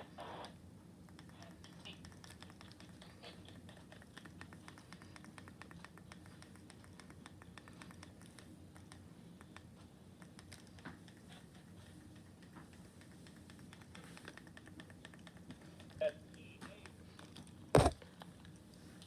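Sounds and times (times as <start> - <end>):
faint rapid small clicks: 0.4 - 16.0.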